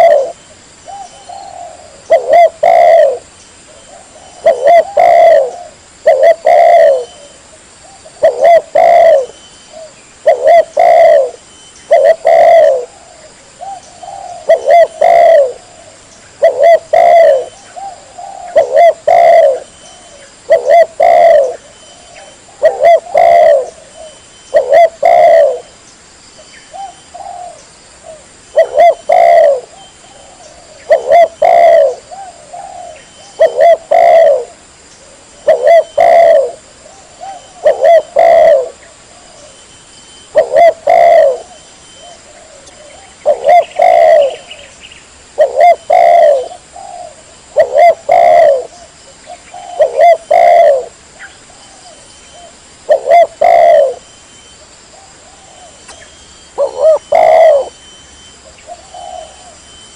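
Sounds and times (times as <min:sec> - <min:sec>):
dove cooing: 0:00.0 - 0:25.8, 0:26.7 - 0:44.7, 0:45.3 - 0:54.1, 0:54.9 - 0:59.9.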